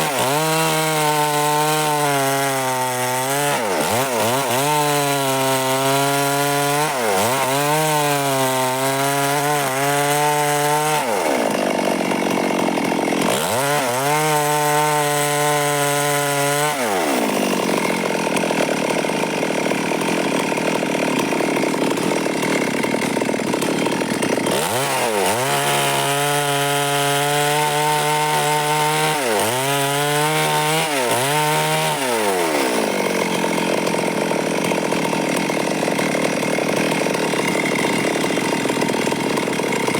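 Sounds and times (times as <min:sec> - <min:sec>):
chainsaw engine running hard: 0:00.0 - 0:39.9.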